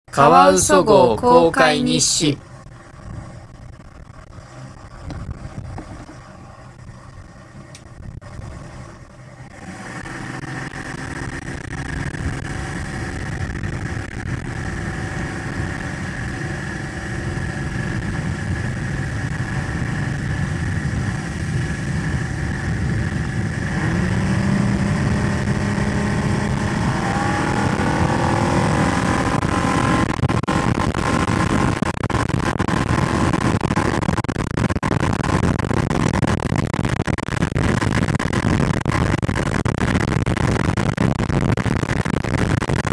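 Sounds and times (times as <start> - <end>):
outboard motor running: 2.4 - 42.9.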